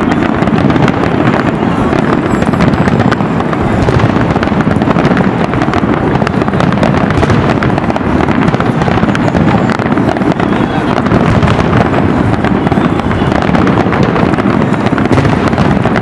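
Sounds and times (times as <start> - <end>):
fireworks popping and booming: 0.0 - 16.0.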